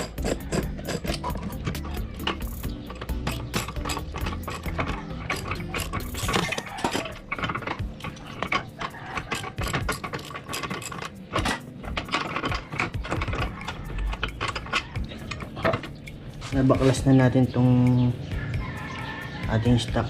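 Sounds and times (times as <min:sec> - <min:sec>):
metal tools clinking and rattling: 0:00.0 - 0:20.0.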